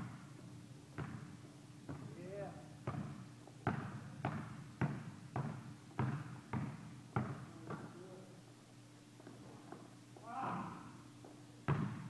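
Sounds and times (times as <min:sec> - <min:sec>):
basketball bouncing on court: 0:00.0 - 0:08.0, 0:09.2 - 0:12.0.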